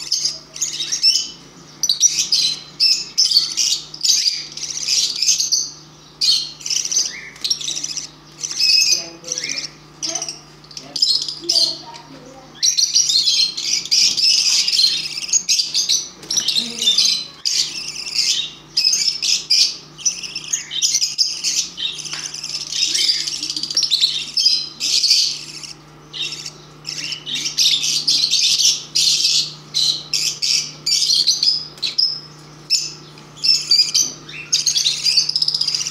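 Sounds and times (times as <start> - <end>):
budgerigars chirping and squawking: 0.0 - 35.9.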